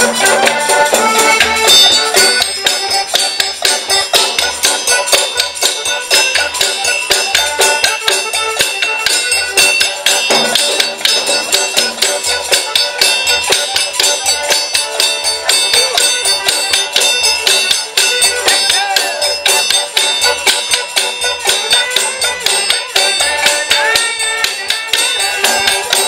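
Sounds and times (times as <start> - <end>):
button accordion playing tune: 0.0 - 26.0
frame drum beat: 0.0 - 26.0.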